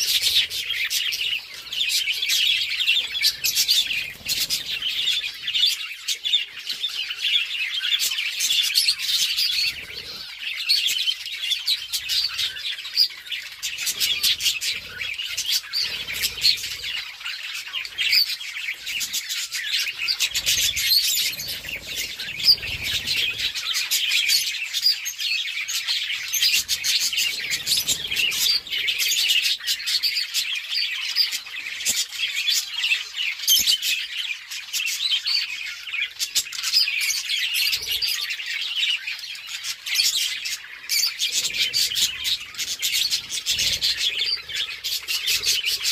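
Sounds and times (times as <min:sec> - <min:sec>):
budgerigars chirping: 0:00.0 - 0:45.9.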